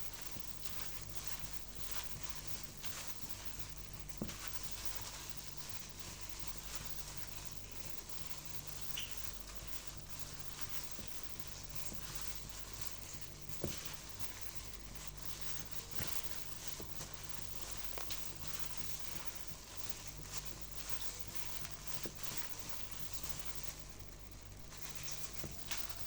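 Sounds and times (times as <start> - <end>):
soft rustling and scraping: 0.0 - 26.0
steady low hum: 0.0 - 26.0.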